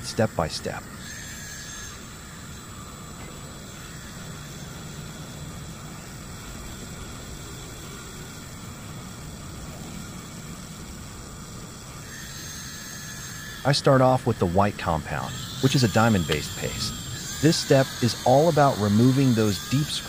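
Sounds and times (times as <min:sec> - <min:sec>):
rotary tool polishing metal: 0:00.0 - 0:20.0.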